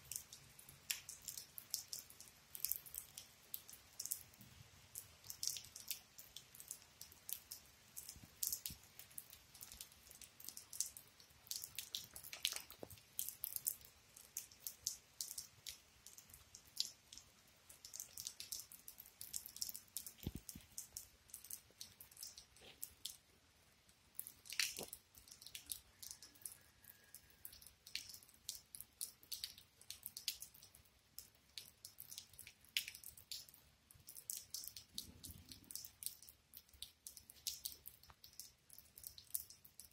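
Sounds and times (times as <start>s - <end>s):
rainwater dripping into puddles: 0.0s - 39.9s.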